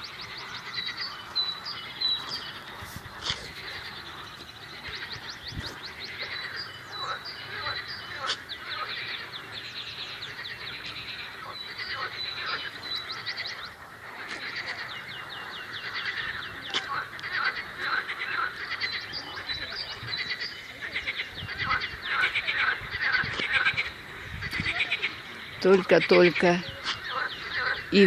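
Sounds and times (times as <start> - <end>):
frogs croaking: 0.0 - 28.0
songbirds trilling: 0.0 - 28.0.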